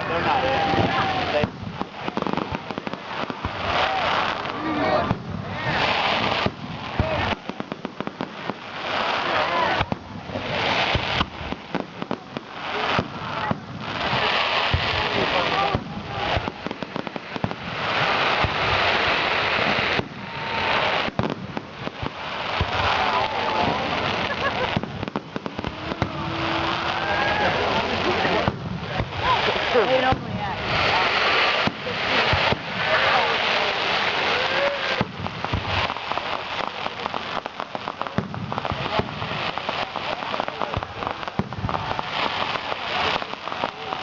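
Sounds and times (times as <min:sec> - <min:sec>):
dense crackling hiss: 0:00.0 - 0:44.0
fireworks crackling pops: 0:00.0 - 0:44.0.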